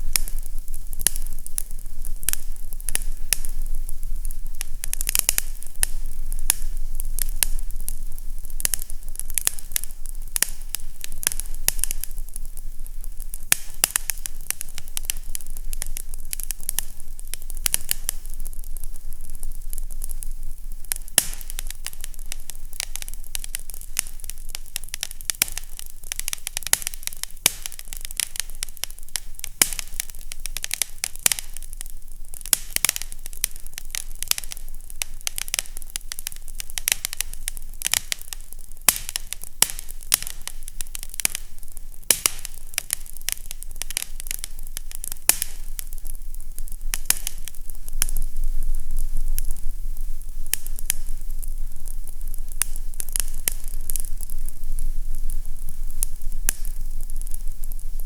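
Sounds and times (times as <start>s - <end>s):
low steady hum: 0.0s - 58.0s
wood fire crackling: 0.0s - 58.0s.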